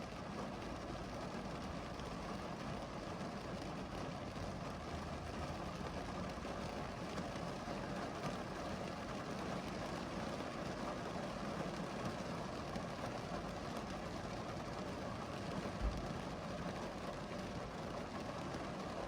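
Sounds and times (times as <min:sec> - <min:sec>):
steady rain falling: 0:00.1 - 0:19.0.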